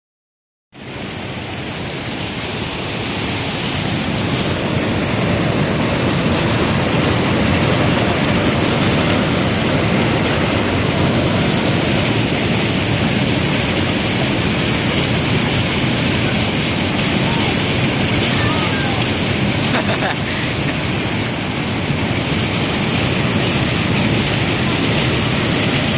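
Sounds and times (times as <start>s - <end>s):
water rushing over rocks: 0.8s - 25.9s.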